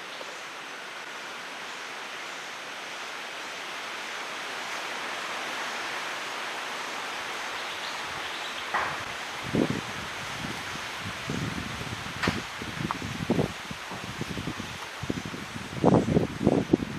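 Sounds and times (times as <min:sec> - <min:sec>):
steady outdoor rushing hiss: 0:00.0 - 0:16.9.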